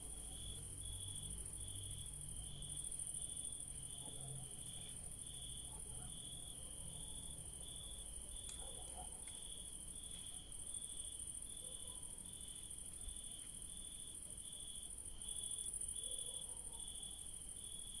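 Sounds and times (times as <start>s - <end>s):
lower cricket chirp: 0.0s - 18.0s.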